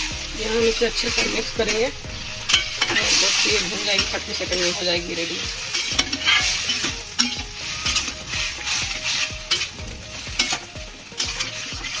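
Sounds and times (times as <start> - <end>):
food sizzling in a pan: 0.0 - 12.0
spatula scraping and tapping pan: 1.2 - 12.0.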